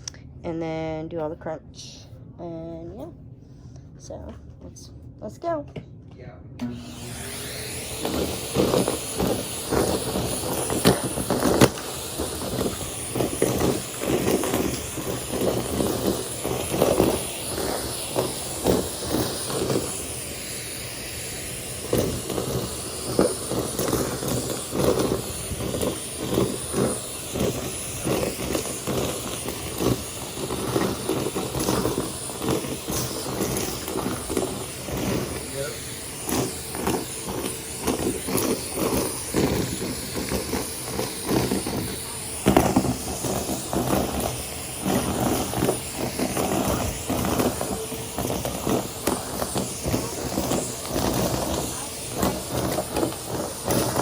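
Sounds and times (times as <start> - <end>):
vacuum cleaner running: 6.6 - 54.0.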